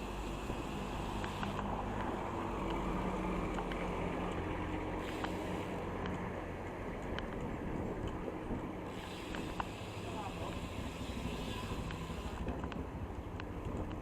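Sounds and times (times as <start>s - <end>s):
low hum of road traffic: 0.0s - 14.0s.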